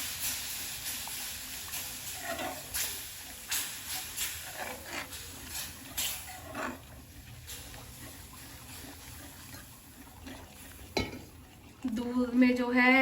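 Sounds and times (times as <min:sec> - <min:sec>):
milk sizzling in hot pan: 0:00.0 - 0:13.0.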